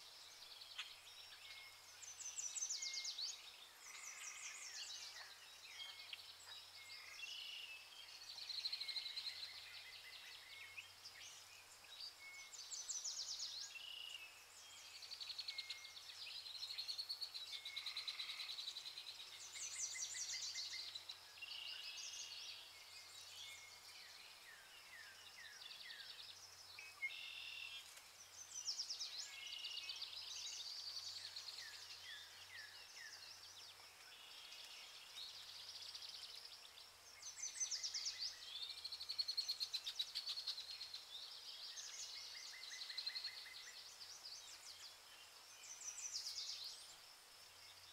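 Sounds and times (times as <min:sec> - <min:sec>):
small birds chirping and trilling: 0:00.0 - 0:47.9.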